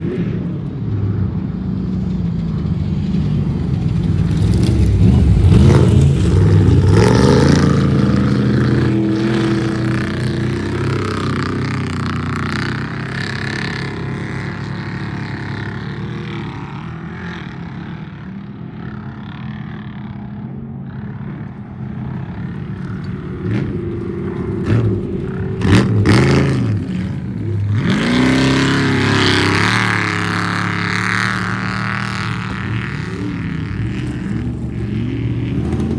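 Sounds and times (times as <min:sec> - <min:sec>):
race truck engines revving past: 0:00.0 - 0:35.9.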